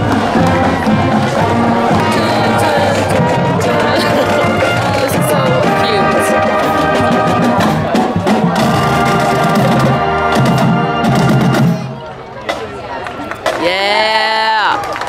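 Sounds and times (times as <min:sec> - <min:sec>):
marching band brass: 0:00.0 - 0:13.6
drumline beating: 0:00.0 - 0:15.0.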